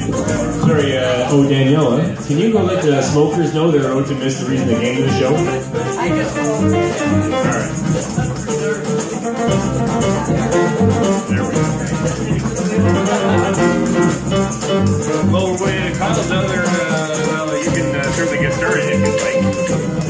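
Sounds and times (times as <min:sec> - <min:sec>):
acoustic guitar: 0:00.0 - 0:20.0
shaker rhythm: 0:00.0 - 0:20.0
upright bass: 0:00.0 - 0:20.0.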